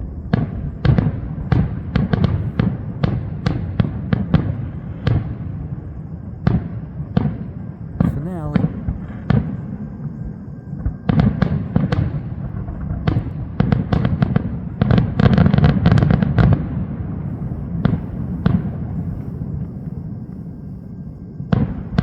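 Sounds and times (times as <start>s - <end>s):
low rumble of echoing explosions: 0.0s - 22.0s.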